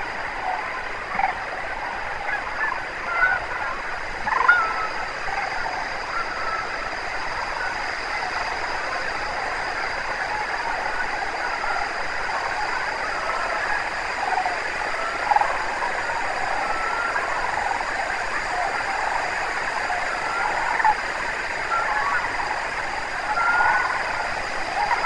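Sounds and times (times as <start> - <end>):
cranes calling in chorus: 0.0 - 25.0.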